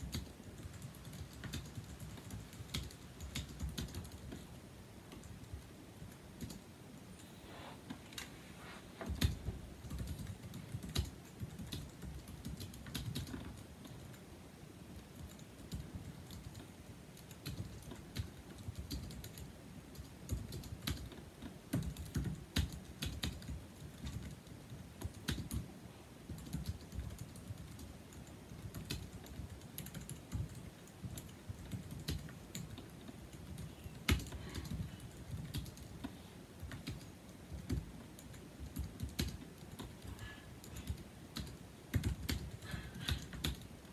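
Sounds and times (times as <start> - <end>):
keyboard keys clicking: 0.0 - 4.5, 9.0 - 14.2, 15.1 - 25.6, 26.3 - 43.9.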